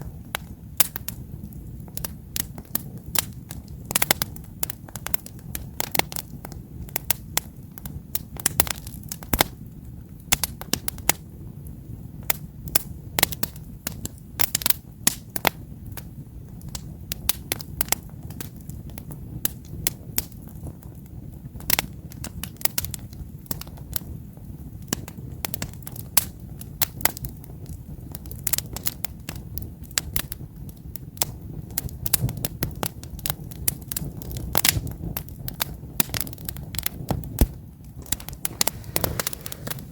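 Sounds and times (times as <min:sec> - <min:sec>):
campfire crackles and pops: 0:00.0 - 0:39.9
low rumble of flames: 0:00.0 - 0:39.9.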